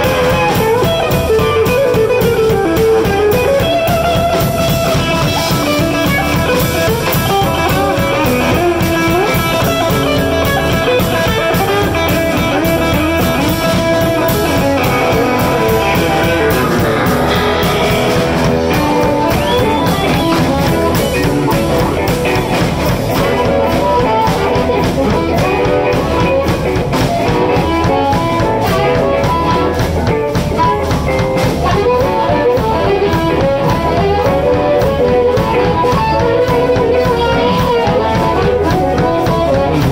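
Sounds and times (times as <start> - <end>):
drum kit beat: 0.0 - 39.9
electric guitar lead: 0.0 - 39.9.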